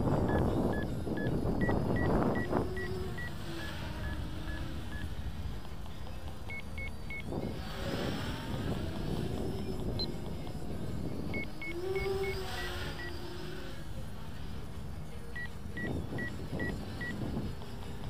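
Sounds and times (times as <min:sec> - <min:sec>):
quadcopter motors buzzing: 0:00.0 - 0:18.0
wind gusts on microphone: 0:00.0 - 0:18.0.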